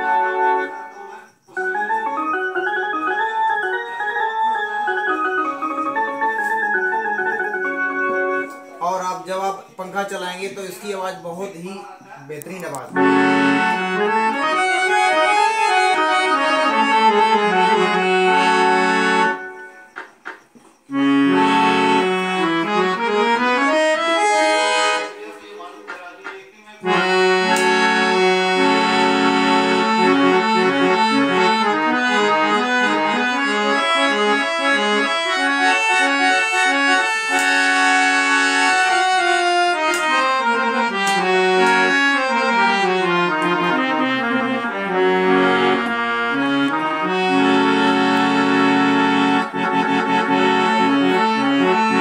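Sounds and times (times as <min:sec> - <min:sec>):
harmonium playing a melody: 0:00.0 - 0:26.0, 0:26.8 - 0:52.0.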